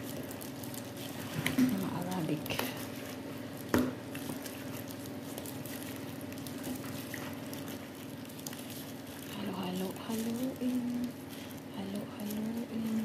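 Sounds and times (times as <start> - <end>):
fish squelching in marinade: 0.0 - 13.0
plastic glove rustling: 0.0 - 13.0
steady low hum: 0.0 - 13.0.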